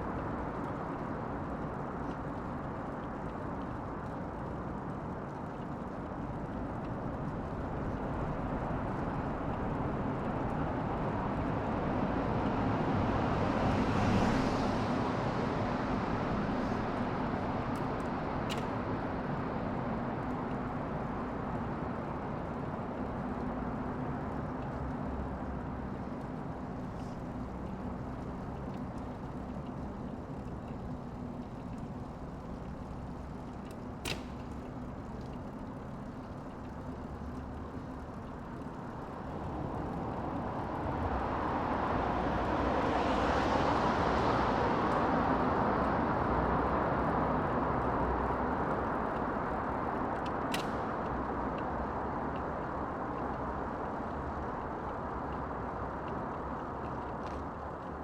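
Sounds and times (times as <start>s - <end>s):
low engine-like hum: 0.0s - 58.0s.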